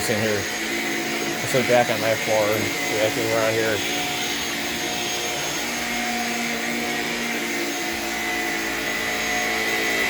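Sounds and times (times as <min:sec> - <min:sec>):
stick vacuum motor whine: 0:00.0 - 0:10.0.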